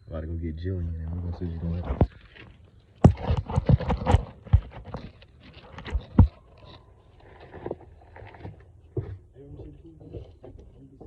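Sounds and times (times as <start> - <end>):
footsteps on hard surface: 1.7 - 11.0.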